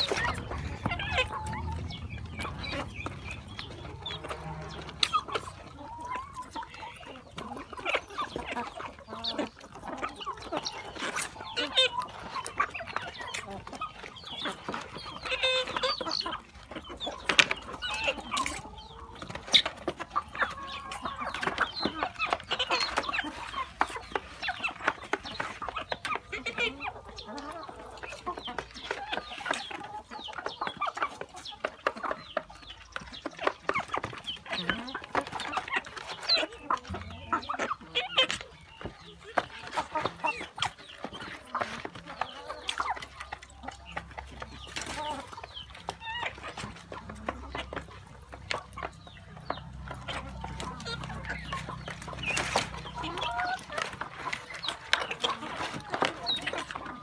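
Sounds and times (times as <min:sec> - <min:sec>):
hens and roosters clucking: 0:00.0 - 0:57.0.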